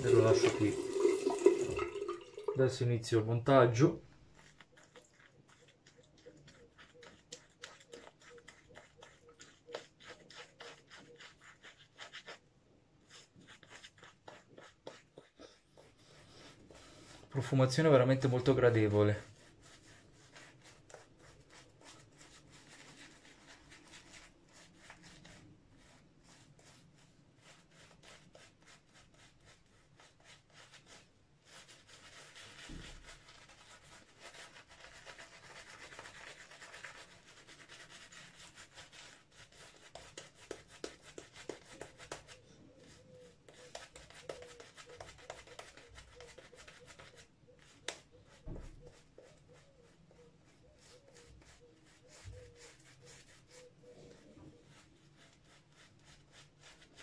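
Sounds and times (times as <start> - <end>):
shaving brush swishing through lather: 0.0 - 1.6, 4.3 - 12.4, 13.0 - 57.0.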